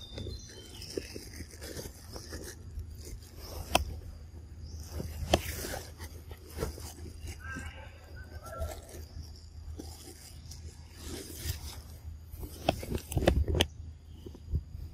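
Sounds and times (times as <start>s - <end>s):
scraping over rock and leaves: 0.0s - 14.7s.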